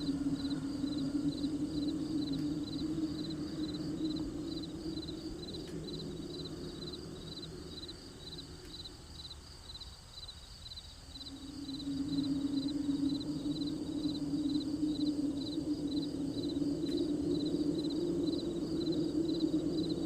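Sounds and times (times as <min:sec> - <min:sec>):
low steady hum: 0:00.0 - 0:10.1, 0:11.0 - 0:20.0
crickets chirping: 0:00.0 - 0:20.0.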